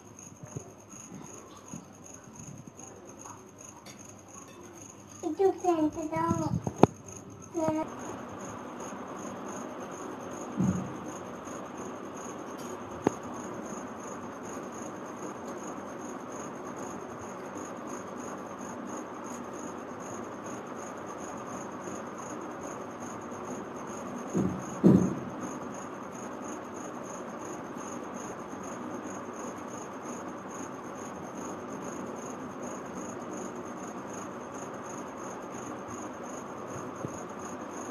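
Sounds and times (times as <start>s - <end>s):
cricket trill: 0.0s - 37.9s
room hiss: 0.0s - 37.9s.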